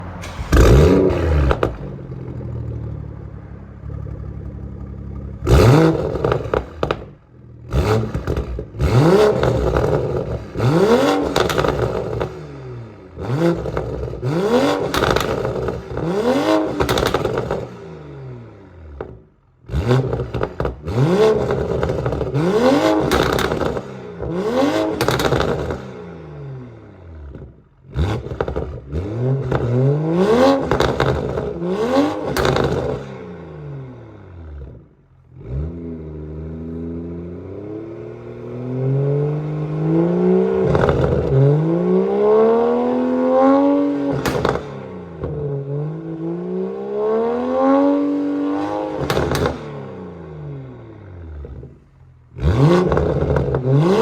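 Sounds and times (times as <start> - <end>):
car engine revving and idling: 0.0 - 54.0.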